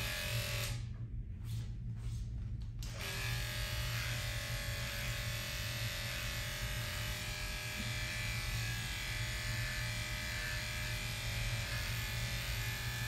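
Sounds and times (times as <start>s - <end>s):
electric clippers buzzing: 0.0s - 0.9s, 2.8s - 13.0s.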